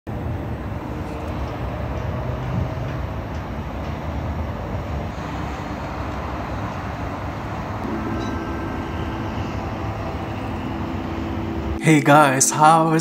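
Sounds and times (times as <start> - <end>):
city traffic rumble: 0.1 - 13.0
faint hum: 0.1 - 13.0.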